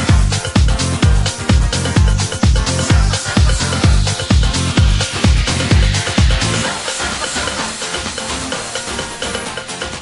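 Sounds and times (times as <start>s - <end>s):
latin house dance music: 0.0s - 10.0s.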